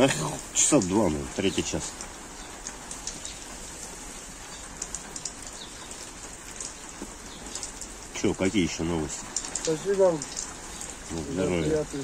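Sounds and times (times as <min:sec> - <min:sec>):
drops ticking on surfaces: 0:00.0 - 0:12.0
rain falling steadily: 0:00.0 - 0:12.0.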